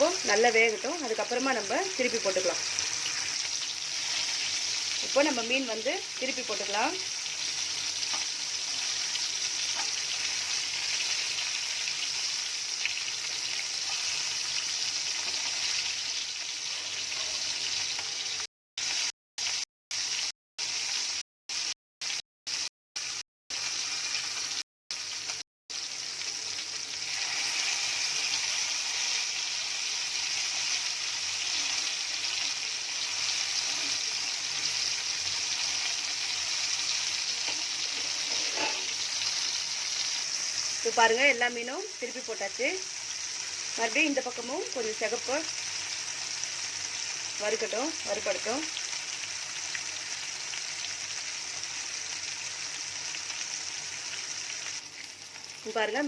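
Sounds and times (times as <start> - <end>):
fish frying in oil: 0.0 - 56.0.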